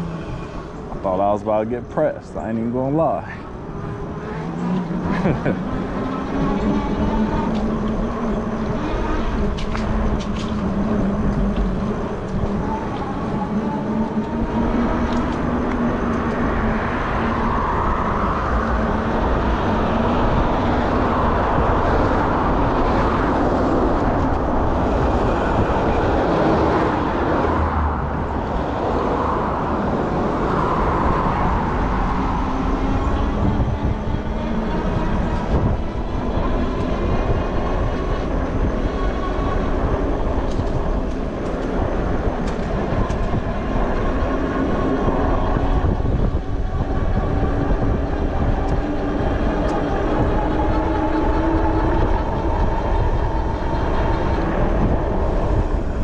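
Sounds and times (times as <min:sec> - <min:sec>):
tyres rolling on pavement: 0:00.0 - 0:56.0
wind rushing over microphone: 0:00.0 - 0:56.0.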